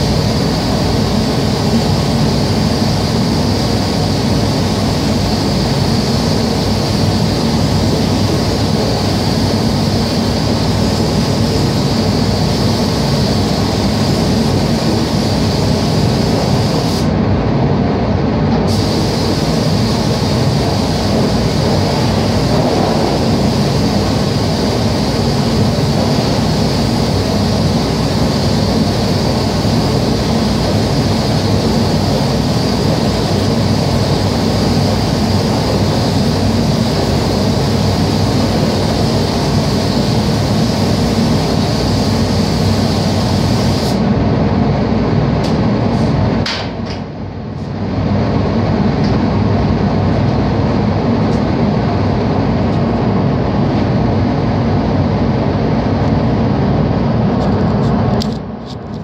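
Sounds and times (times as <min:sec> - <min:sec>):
ventilation fans rushing air: 0:00.0 - 0:59.0.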